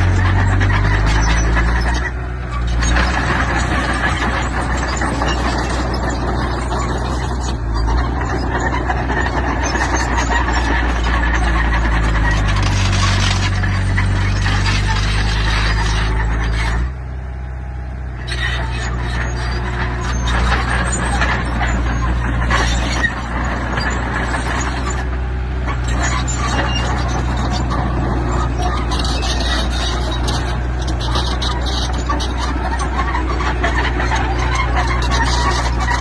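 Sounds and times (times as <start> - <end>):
clatter of tracks and stone: 0.0 - 17.0, 18.2 - 36.0
diesel engine running: 0.0 - 36.0.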